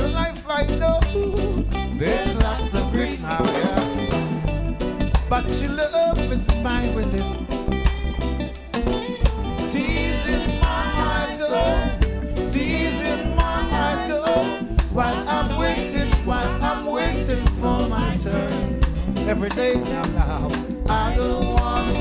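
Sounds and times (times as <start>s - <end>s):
person singing: 0.0s - 4.5s, 5.2s - 7.5s, 9.6s - 22.0s
live reggae band: 0.0s - 22.0s.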